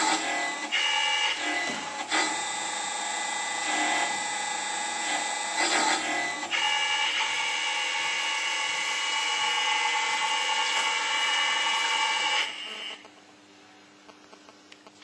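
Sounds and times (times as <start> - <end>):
machine motor whine: 0.0 - 13.1.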